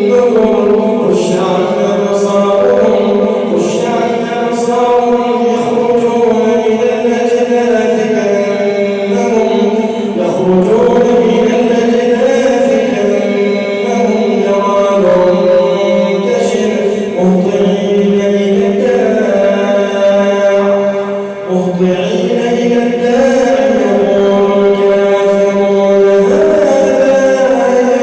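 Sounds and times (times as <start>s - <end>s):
man chanting melodically: 0.0s - 28.0s.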